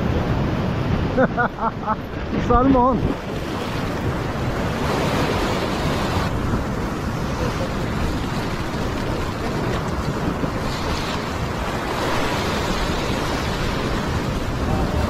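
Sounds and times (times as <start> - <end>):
surf washing against rocks: 0.0 - 15.0
wind buffeting microphone: 0.0 - 15.0.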